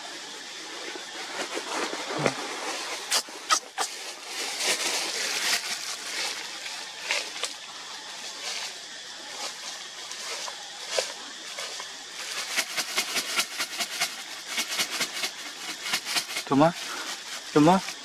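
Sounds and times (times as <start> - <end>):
leaves rustling: 0.0 - 18.0
branches creaking: 1.2 - 18.0.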